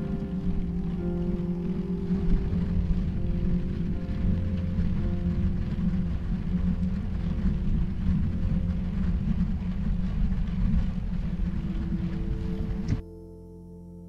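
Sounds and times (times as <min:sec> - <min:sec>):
wind buffeting microphone: 0:00.0 - 0:13.0
faint background music: 0:00.0 - 0:14.0.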